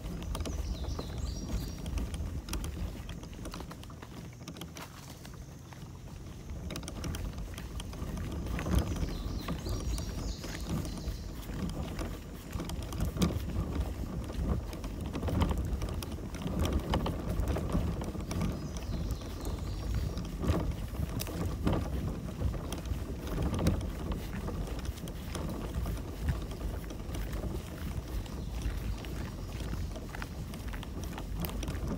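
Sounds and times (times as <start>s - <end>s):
paddle strokes splashing water: 0.0s - 31.9s.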